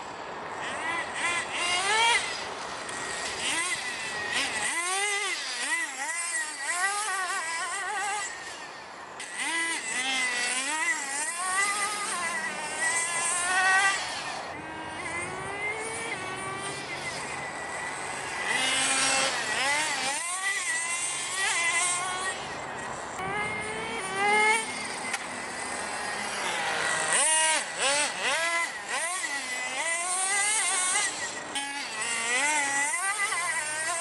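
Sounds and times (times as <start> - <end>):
rc car engines revving: 0.0 - 34.0.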